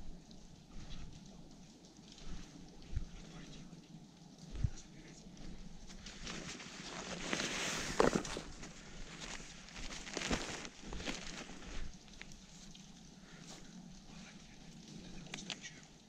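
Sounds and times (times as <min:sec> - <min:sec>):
rustling of gloves and clothing: 0:00.0 - 0:16.0.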